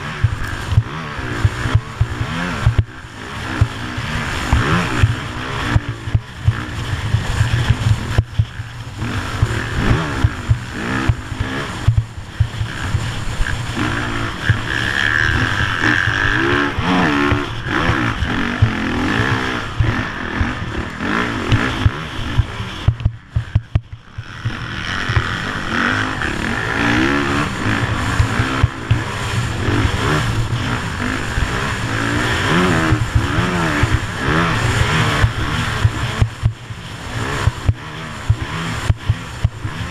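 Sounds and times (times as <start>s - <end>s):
motocross bike engine revving: 0.0s - 39.9s
wind rumble on microphone: 0.0s - 39.9s.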